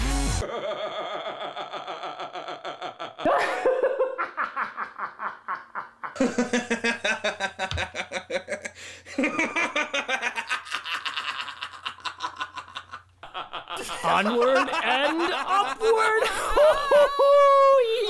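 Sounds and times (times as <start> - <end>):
men laughing hard: 0.4 - 18.0.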